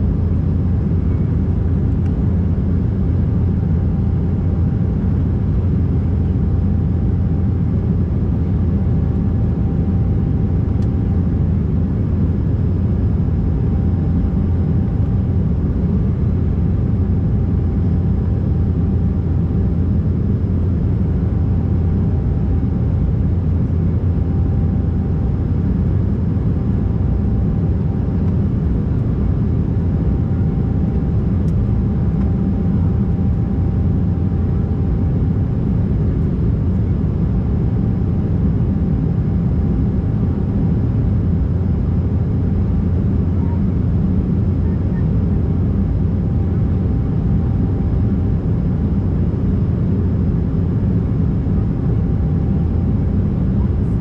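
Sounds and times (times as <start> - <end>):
faint steady whine: 0.0 - 54.0.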